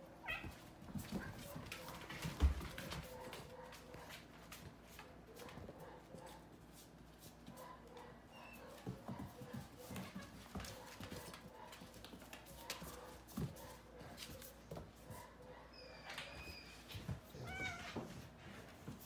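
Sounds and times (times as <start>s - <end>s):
animals scuffling on wood floor: 0.2s - 19.0s.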